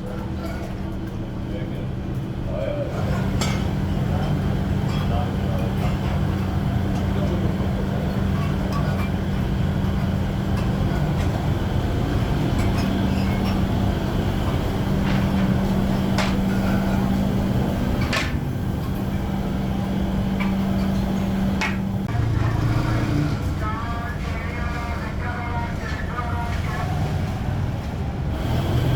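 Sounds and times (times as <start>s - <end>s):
workshop machinery humming: 0.0s - 28.9s.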